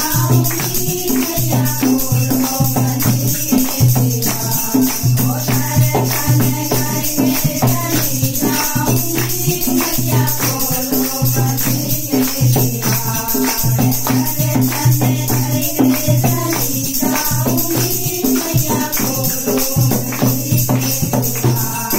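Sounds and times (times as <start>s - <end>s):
hand clapping: 0.0s - 21.9s
rhythmic percussion beat: 0.0s - 21.9s
women singing devotional song: 0.0s - 21.9s.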